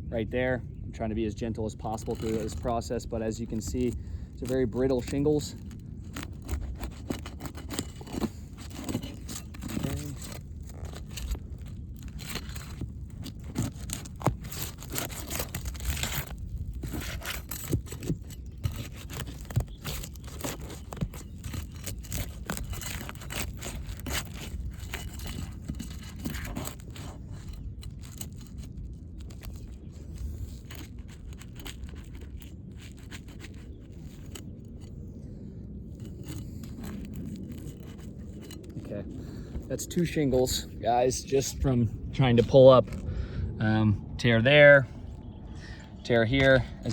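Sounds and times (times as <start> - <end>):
shingles scraping and tearing: 1.0 - 43.3, 44.3 - 46.9.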